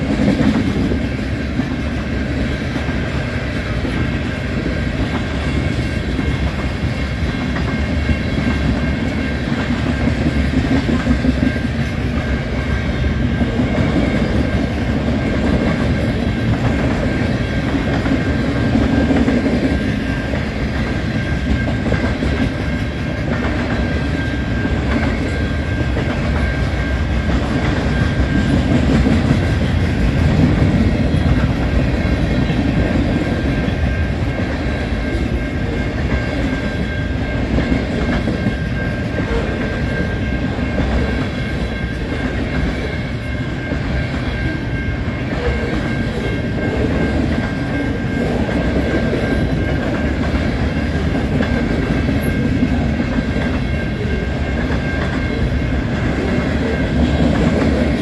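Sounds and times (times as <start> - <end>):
crossing bell ringing: 0.0 - 58.0
freight train rumble: 0.0 - 58.0
steel wheels clacking over rail joints: 0.0 - 58.0.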